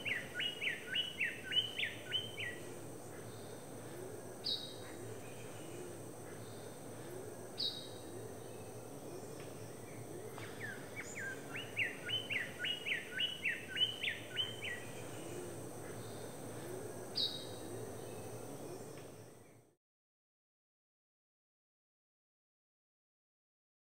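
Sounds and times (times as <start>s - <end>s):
high insect drone: 0.0s - 19.6s.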